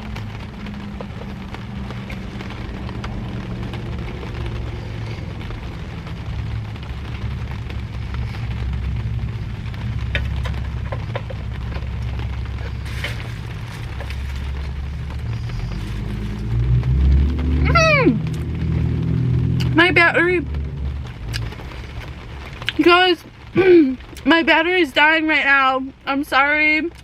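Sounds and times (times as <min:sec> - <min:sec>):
rain on a car: 0:00.0 - 0:27.0.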